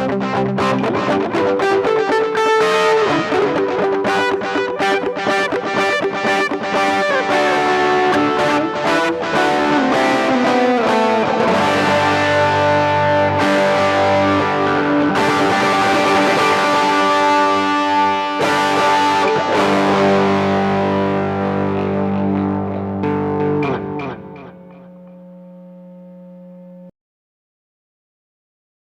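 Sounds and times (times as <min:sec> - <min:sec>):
distorted electric guitar: 0:00.0 - 0:26.9.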